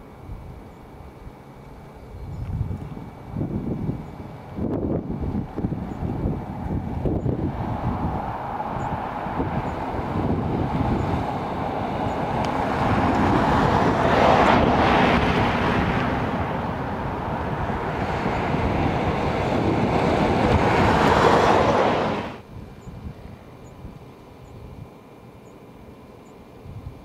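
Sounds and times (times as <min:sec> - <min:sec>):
road traffic passing: 0:00.0 - 0:26.8.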